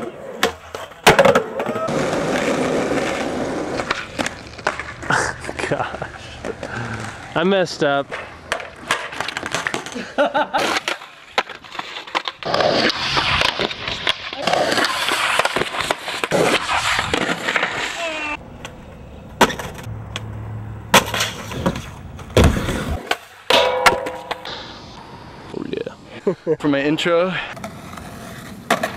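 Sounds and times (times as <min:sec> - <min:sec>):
skateboard popping and landing: 0:00.0 - 0:05.7, 0:08.0 - 0:24.8, 0:27.5 - 0:28.9
skateboard wheels rolling on pavement: 0:00.0 - 0:28.9.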